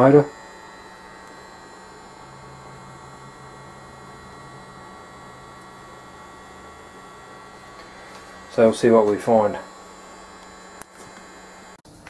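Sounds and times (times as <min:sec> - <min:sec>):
thin high steady tones: 0:00.0 - 0:11.8
low electrical hum: 0:00.0 - 0:12.0.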